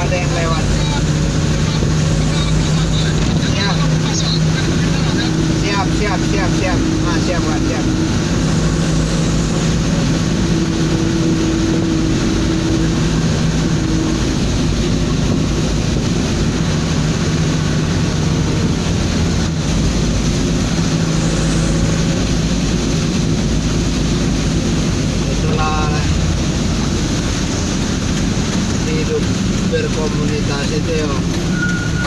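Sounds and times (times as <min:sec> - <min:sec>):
road noise: 0:00.0 - 0:32.0
truck engine hum: 0:00.0 - 0:32.0.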